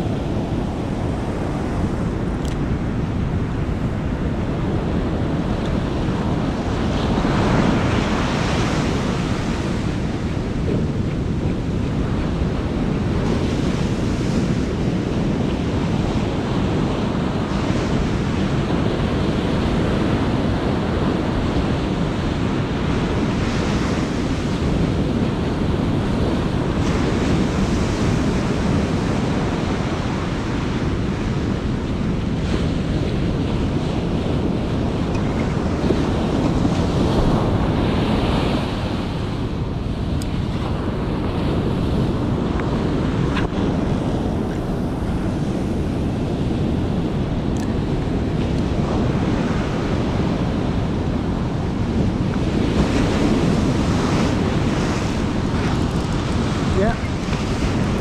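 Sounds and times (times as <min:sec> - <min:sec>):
ocean surf breaking on beach: 0:00.0 - 0:58.0
wind buffeting microphone: 0:00.0 - 0:58.0.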